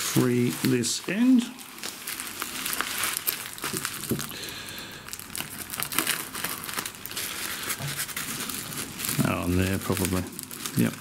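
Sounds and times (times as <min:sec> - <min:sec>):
bubble wrap and tape crinkling: 0:00.0 - 0:11.0.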